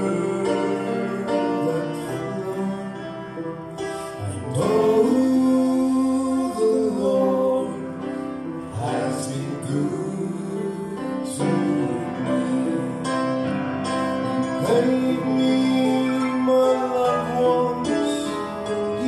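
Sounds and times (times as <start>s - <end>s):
men singing gospel: 0.0s - 19.0s
small band playing: 0.0s - 19.0s.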